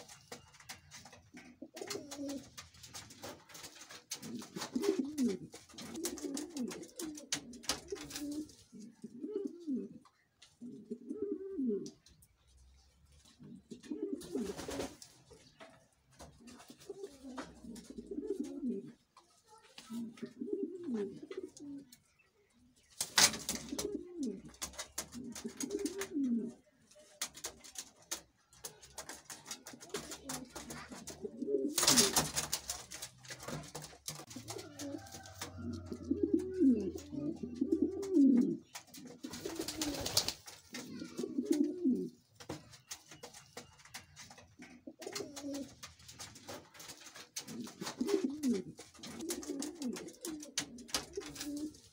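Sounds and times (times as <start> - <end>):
pigeons cooing: 0.0 - 12.1, 13.3 - 15.6, 16.2 - 19.0, 19.9 - 22.4, 23.1 - 51.9.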